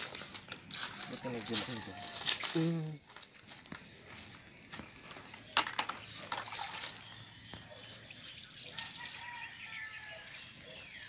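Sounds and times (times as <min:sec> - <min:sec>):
water trickling into soil: 0:00.0 - 0:03.4, 0:04.4 - 0:11.0.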